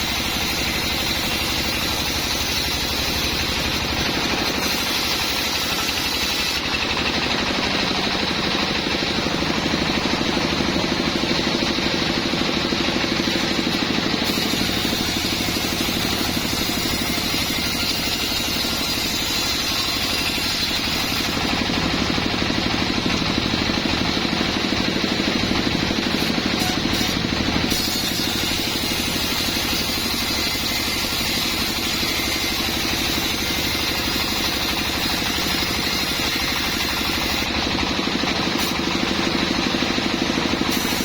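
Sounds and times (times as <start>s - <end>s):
sawmill engine pulsing: 0.0s - 41.0s.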